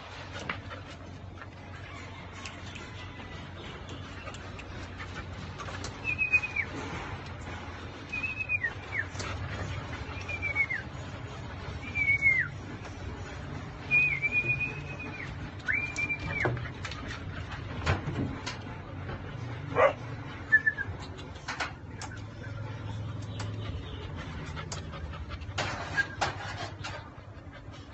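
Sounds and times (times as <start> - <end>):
puppies whining: 0.1 - 6.8, 7.9 - 17.9, 19.7 - 27.9.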